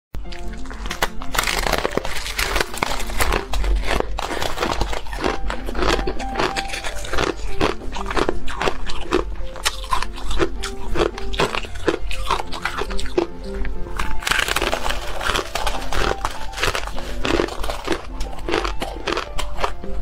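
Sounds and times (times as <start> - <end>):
background music: 0.2 - 20.0
ice crunching: 0.2 - 20.0.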